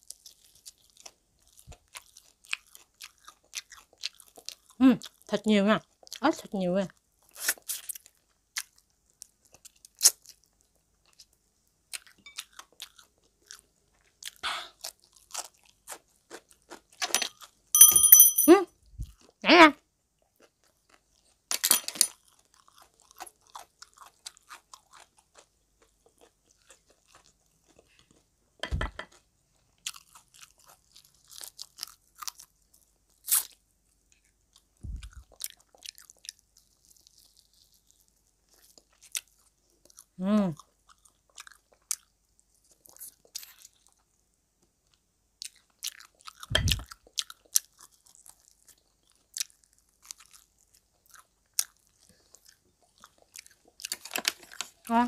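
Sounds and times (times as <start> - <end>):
chewing and crunching: 0.0 - 17.7, 20.2 - 21.5, 22.1 - 28.4, 29.0 - 55.0.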